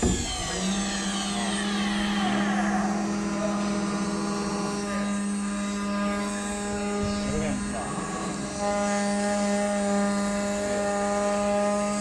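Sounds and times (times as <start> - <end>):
router machine hum and whine: 0.0 - 12.0.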